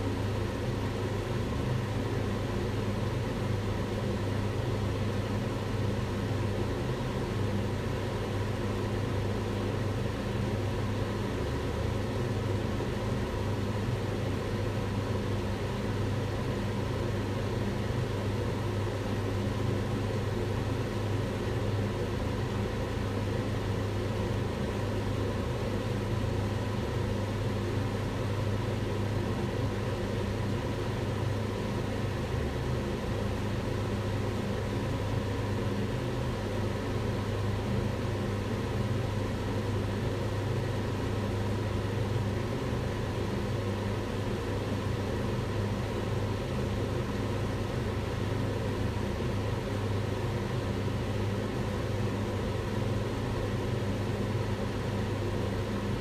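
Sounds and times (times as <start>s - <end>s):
range hood fan running: 0.0s - 56.0s.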